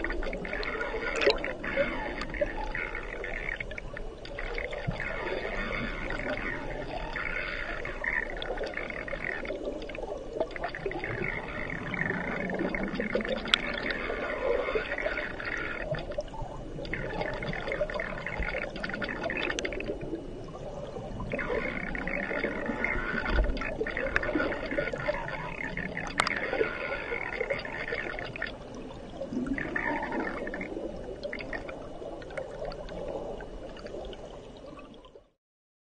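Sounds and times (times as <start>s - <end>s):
underwater river rushing: 0.0s - 35.3s.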